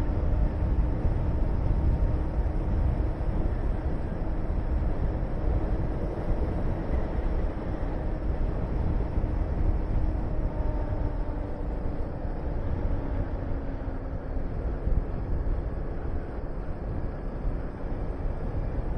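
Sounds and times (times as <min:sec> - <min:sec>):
wind rushing on microphone: 0:00.0 - 0:18.9.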